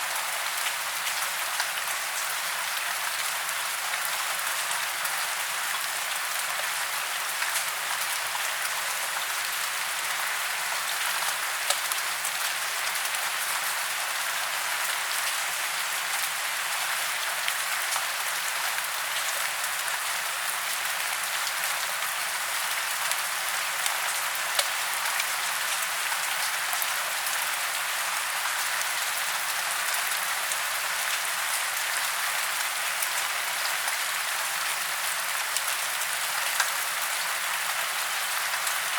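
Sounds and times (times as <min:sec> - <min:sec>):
rain falling through trees: 0:00.0 - 0:38.9.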